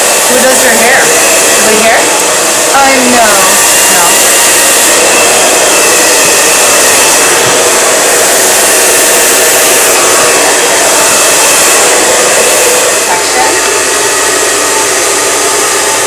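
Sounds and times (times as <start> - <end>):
blow dryer running: 0.0 - 16.0.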